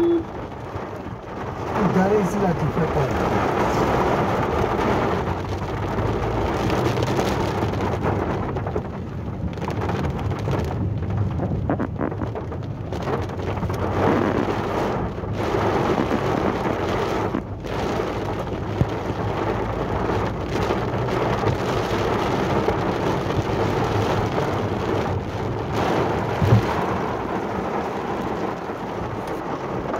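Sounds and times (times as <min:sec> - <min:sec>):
heavy rain on car roof: 0:00.0 - 0:29.9.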